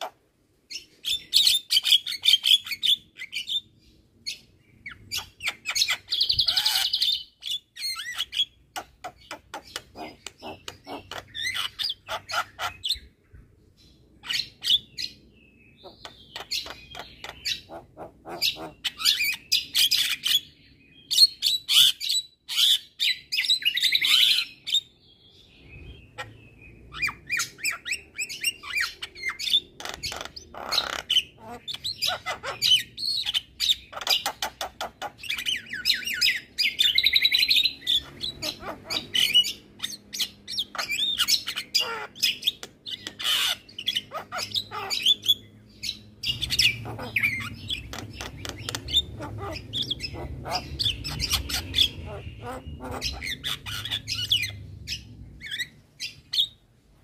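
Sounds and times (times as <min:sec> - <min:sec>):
bird chattering song: 0:00.0 - 0:56.6.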